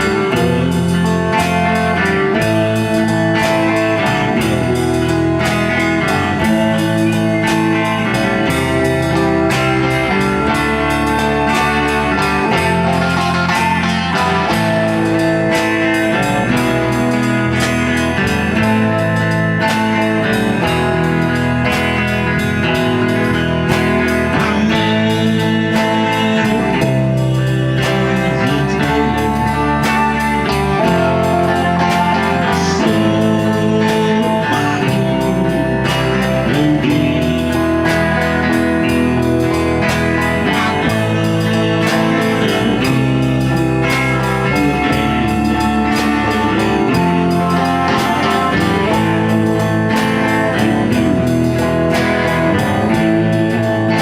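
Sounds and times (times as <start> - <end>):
bass: 0.0 - 54.0
guitar: 0.0 - 54.0
steady drum beat: 0.0 - 54.0.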